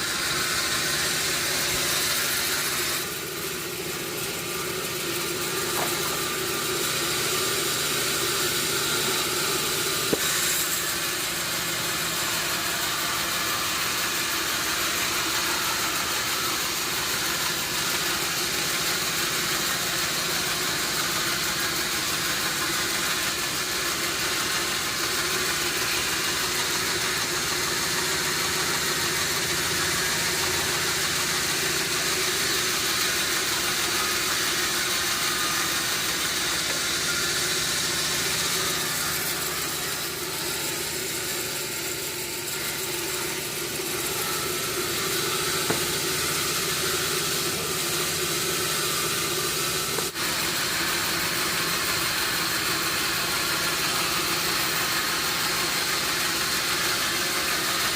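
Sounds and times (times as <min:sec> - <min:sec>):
sawmill machinery hum and hiss: 0:00.0 - 0:57.9.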